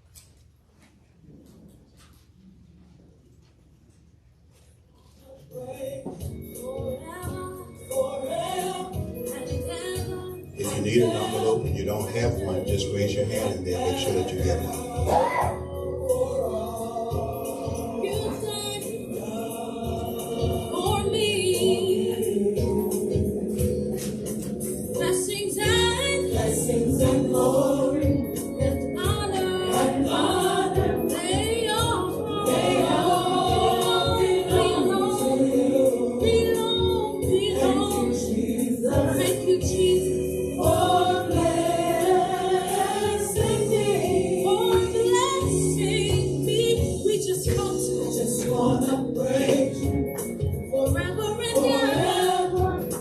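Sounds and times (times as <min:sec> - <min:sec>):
gospel choir singing: 0:05.4 - 0:53.0.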